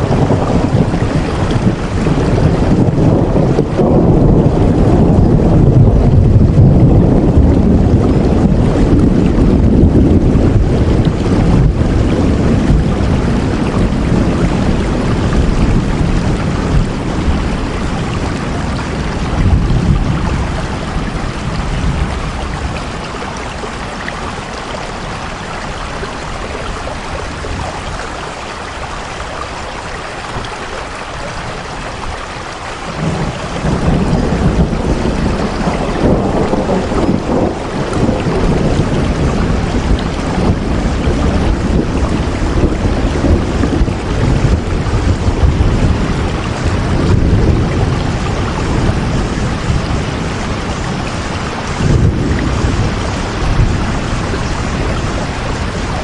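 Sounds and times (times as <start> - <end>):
low rumble of thunder: 0.0 - 56.0
rain falling: 0.0 - 56.0.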